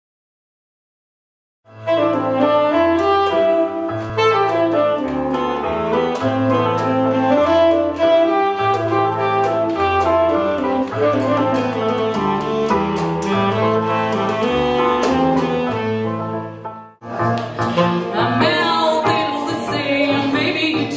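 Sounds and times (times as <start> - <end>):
electric piano chords: 1.7 - 20.9
tenor saxophone melody: 1.7 - 20.9.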